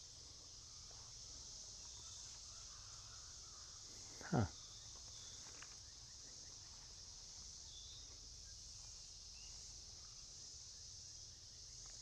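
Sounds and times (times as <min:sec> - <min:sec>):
insects droning: 0:00.0 - 0:12.0
faint bird chirps: 0:01.8 - 0:12.0.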